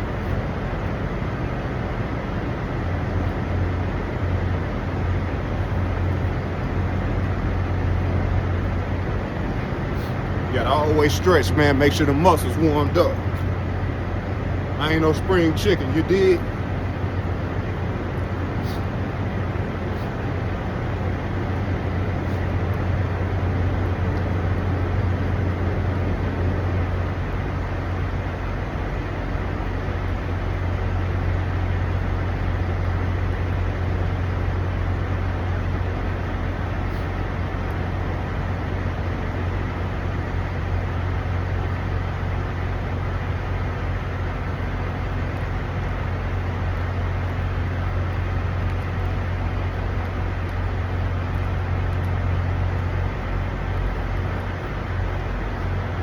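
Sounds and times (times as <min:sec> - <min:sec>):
idling diesel truck engines: 0:00.0 - 0:56.0.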